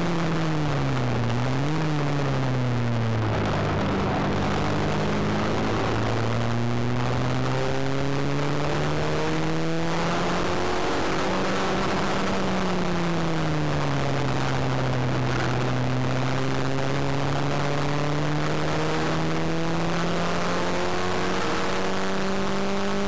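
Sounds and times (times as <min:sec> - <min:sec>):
car engine revving: 0:00.0 - 0:23.0
road and wind noise: 0:00.0 - 0:23.0.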